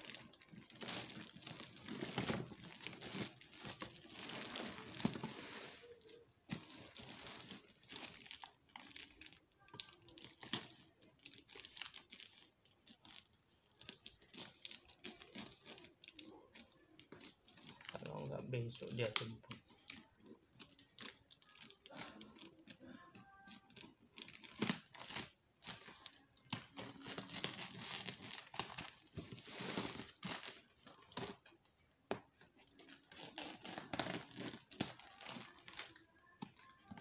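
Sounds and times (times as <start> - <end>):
plastic wrap crinkling and tearing: 0.0 - 37.0.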